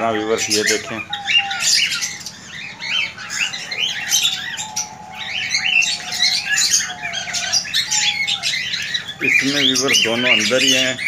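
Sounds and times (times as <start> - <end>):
cockatiels chirping and squawking: 0.0 - 11.0.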